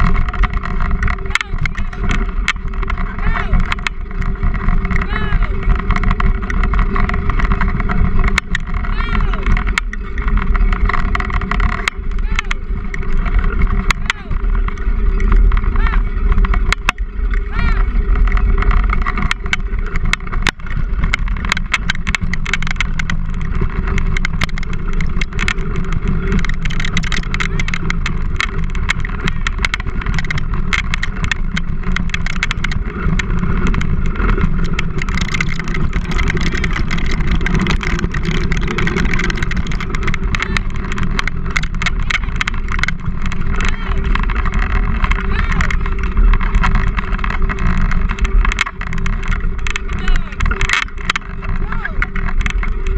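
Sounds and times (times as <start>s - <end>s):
rig rattling and clicking: 0.0s - 52.9s
wheels rolling over dirt trail: 0.0s - 52.9s.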